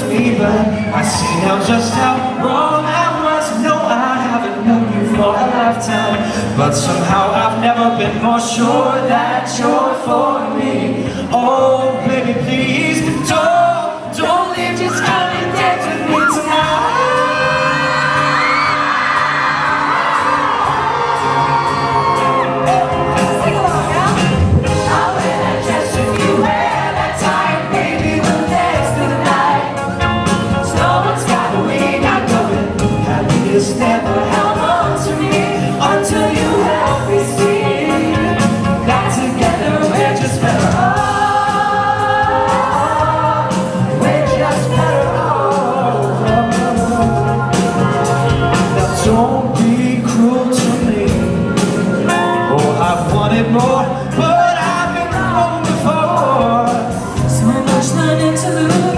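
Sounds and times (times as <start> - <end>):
live pop song with singing: 0.0 - 58.9.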